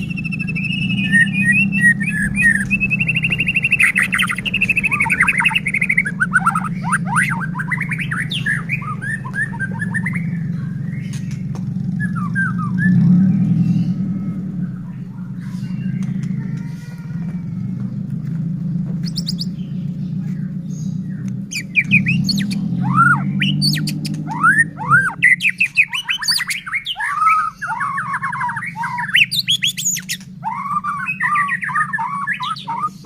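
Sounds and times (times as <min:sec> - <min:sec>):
songbird trills and whistles: 0:00.0 - 0:14.2, 0:19.0 - 0:33.0
steady low hum: 0:00.0 - 0:33.0.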